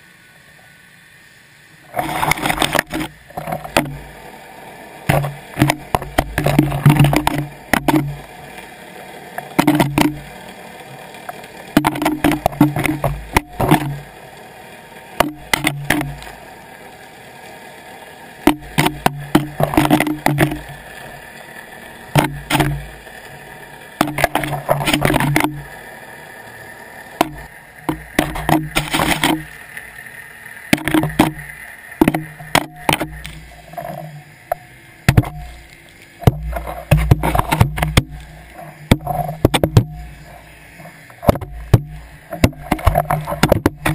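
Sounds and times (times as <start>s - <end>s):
camera housing scraping rocks underwater: 1.9s - 14.2s, 15.0s - 16.5s, 18.3s - 26.0s, 27.0s - 30.0s, 30.6s - 43.9s.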